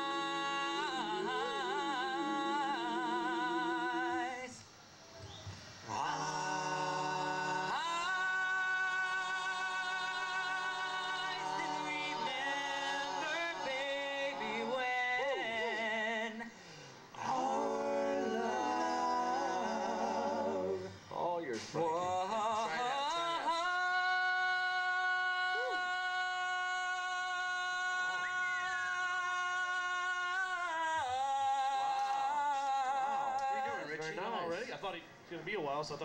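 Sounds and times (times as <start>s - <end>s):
male vocal quartet singing harmony: 0.0s - 4.8s, 5.8s - 34.4s.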